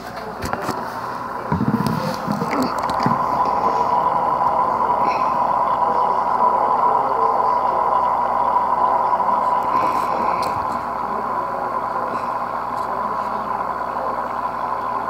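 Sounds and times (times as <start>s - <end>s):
aquarium filter whirring: 0.0s - 15.0s.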